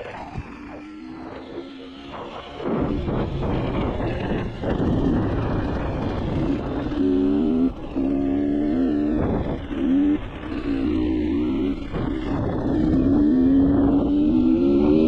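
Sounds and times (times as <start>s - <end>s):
dirt bike engine revving: 0.8s - 15.0s.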